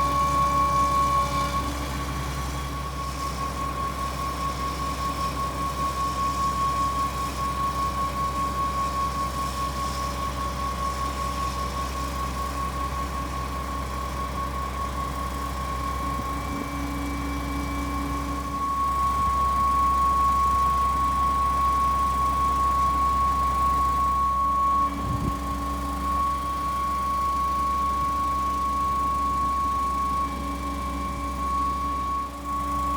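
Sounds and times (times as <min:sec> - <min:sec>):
constant high-pitched tone: 0:00.0 - 0:32.9
engine drone: 0:00.0 - 0:32.9.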